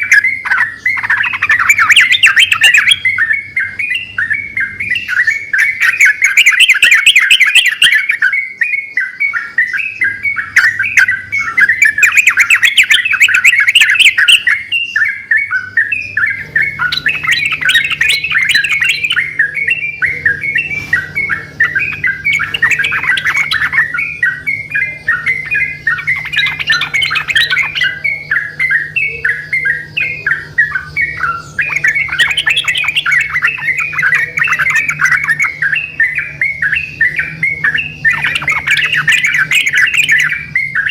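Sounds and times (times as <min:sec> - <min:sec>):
birds chattering song: 0:00.0 - 0:40.9.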